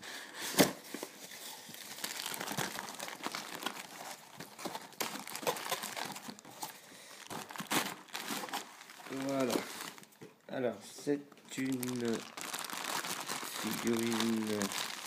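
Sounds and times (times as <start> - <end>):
plastic packaging crinkling: 1.2 - 10.2, 11.4 - 15.0.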